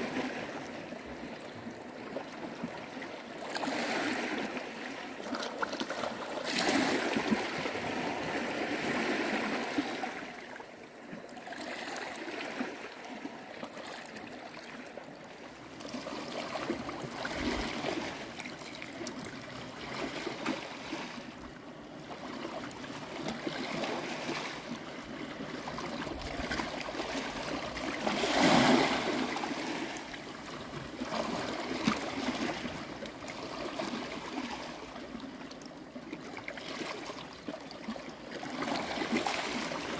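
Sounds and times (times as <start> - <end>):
small waves washing in: 0.0 - 35.4, 36.1 - 39.9
water lapping among rocks: 0.0 - 39.9.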